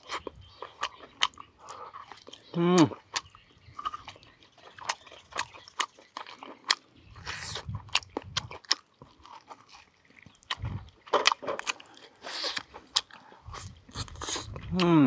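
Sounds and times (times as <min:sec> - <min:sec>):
man chewing and crunching: 0:00.0 - 0:15.0.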